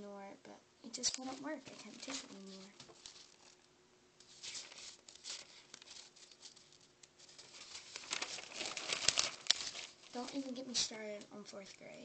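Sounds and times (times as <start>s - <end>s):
paper page rustling: 1.0s - 11.4s.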